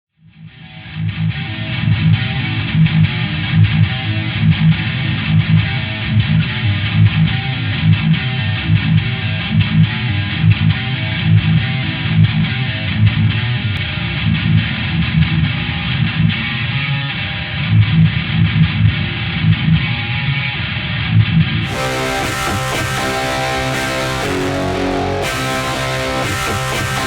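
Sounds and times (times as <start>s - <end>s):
electric guitar and bass music: 0.4s - 27.0s.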